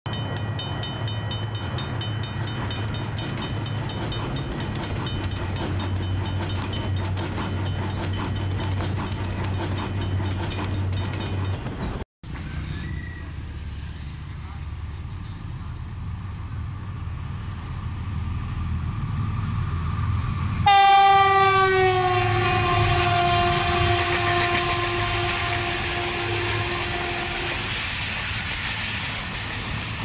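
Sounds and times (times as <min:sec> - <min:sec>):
train clickety-clack on rails: 0:00.1 - 0:12.0, 0:14.3 - 0:30.0
outdoor background noise: 0:00.1 - 0:30.0.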